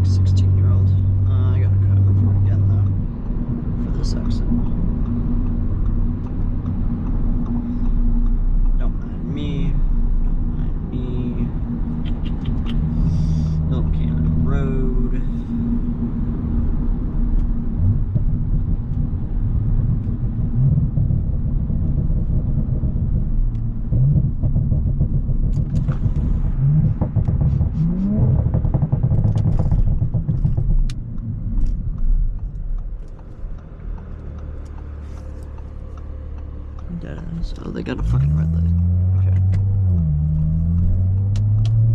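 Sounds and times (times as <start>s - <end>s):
car engine accelerating: 0.0s - 41.9s
road noise: 0.0s - 41.9s.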